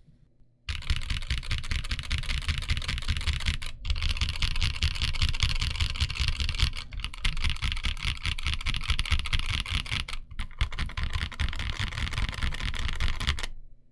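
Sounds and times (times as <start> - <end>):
fast mechanical keyboard typing: 0.7 - 13.6.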